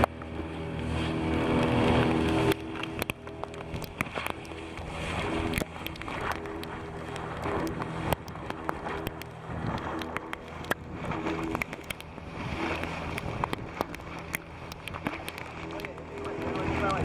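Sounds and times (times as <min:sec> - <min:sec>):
motor running steadily: 0:00.0 - 0:17.0
scattered clicks and knocks: 0:01.4 - 0:17.0.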